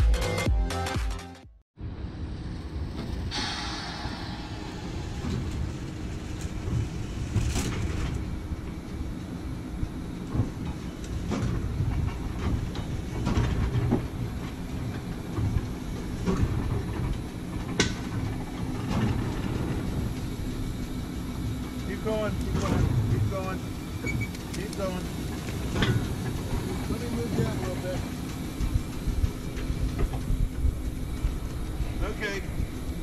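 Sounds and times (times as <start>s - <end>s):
steel wheels rumbling on rail: 1.8s - 33.0s.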